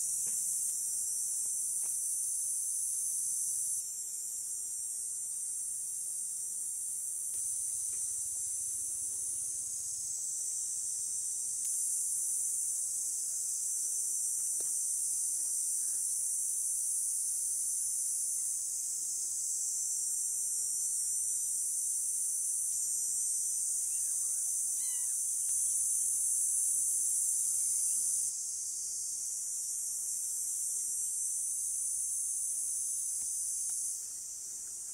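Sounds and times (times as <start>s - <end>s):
chorus of forest insects: 0.0s - 34.9s.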